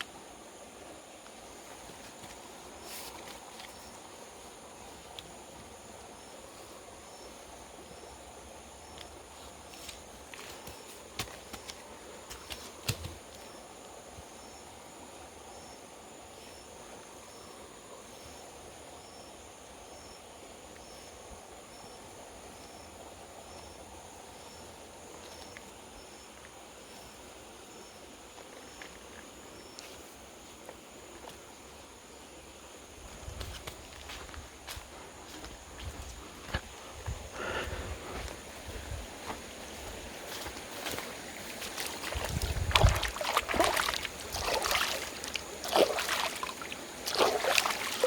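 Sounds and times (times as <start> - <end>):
insect chirping: 0.0 - 48.0
insects droning: 0.0 - 48.0.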